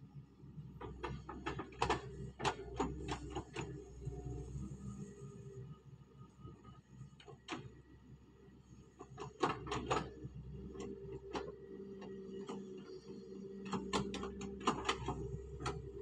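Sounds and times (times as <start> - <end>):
excavator engine humming: 0.0 - 16.0.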